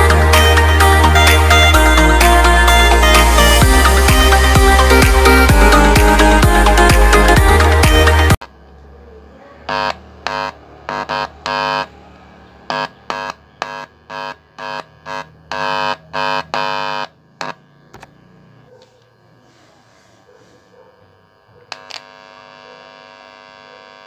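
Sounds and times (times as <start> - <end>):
loud electrical buzz from speakers: 0.0 - 24.0.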